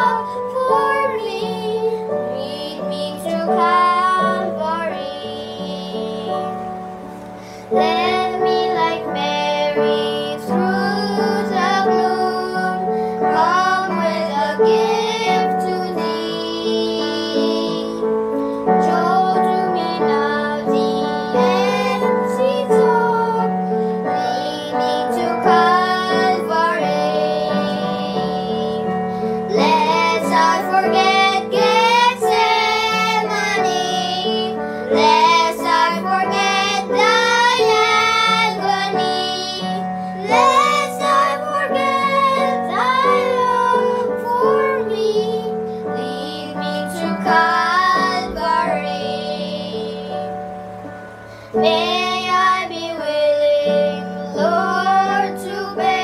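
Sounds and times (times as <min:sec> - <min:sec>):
children singing: 0:00.0 - 0:06.6, 0:07.7 - 0:50.4, 0:51.6 - 0:56.0
instrumental accompaniment: 0:00.0 - 0:56.0.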